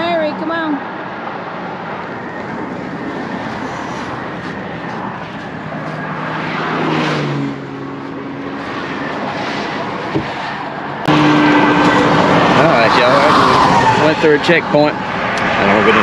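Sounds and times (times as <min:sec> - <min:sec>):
highway traffic: 0:00.0 - 0:16.0
vehicle passing close: 0:01.0 - 0:16.0.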